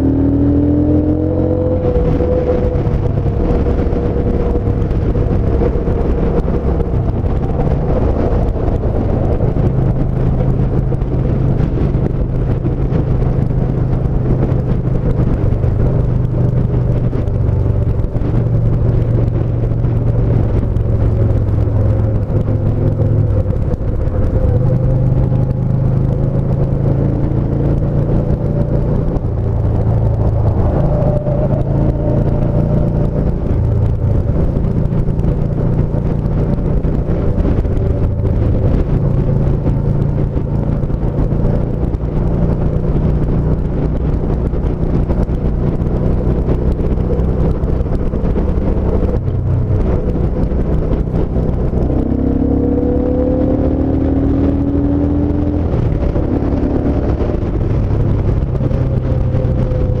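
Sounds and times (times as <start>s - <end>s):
motorcycle engine running: 0.0s - 60.0s
rising whine: 0.0s - 60.0s
wind noise: 0.0s - 60.0s.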